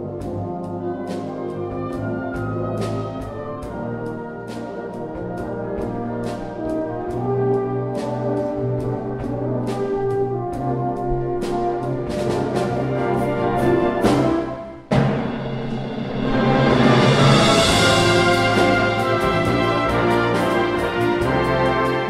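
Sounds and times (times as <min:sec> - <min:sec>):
wind band playing slow ballad: 0:00.0 - 0:22.0.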